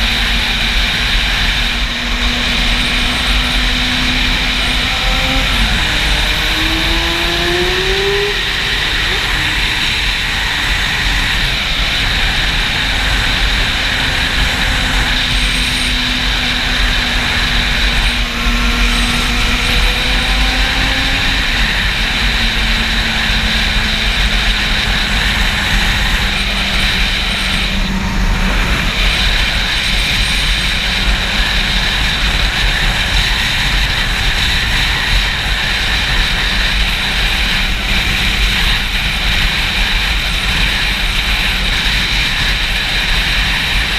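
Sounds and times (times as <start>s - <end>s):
motorcycle engine: 0.0s - 43.9s
wind buffeting microphone: 0.0s - 43.9s.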